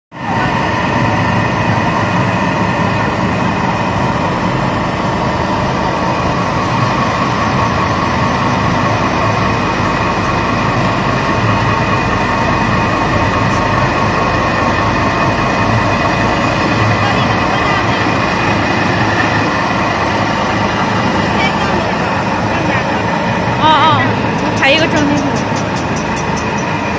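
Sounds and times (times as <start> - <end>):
pellet mill motor droning: 0.2 - 26.9.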